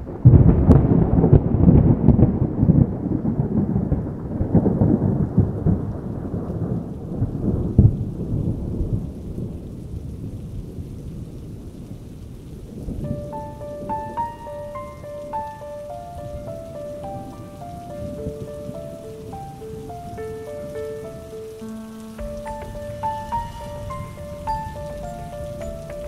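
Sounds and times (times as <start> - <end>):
thunderclap rolling: 0.0 - 11.9, 12.5 - 26.0
steady rain: 0.0 - 26.0.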